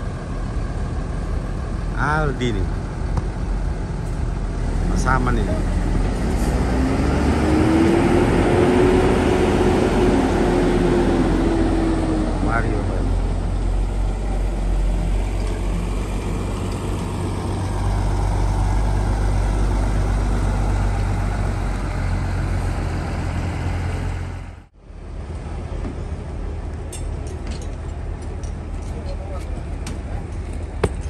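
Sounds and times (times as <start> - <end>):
diesel bus engine rumbling: 0.0 - 31.0.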